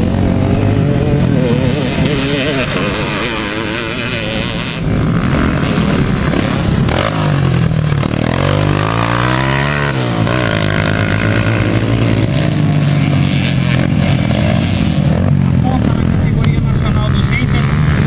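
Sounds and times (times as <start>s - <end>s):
motorcycle engine revving: 0.0s - 18.0s
motorcycle engines running: 0.0s - 18.0s.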